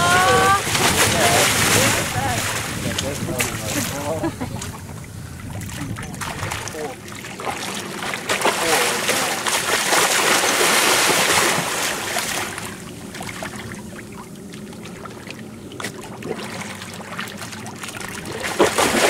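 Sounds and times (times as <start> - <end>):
water lapping: 0.0 - 19.0
water splashing: 0.0 - 19.0.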